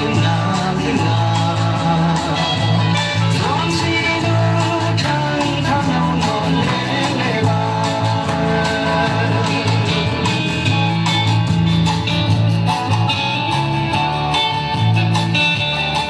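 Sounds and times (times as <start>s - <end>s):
guitar-led music with bass: 0.0s - 16.0s.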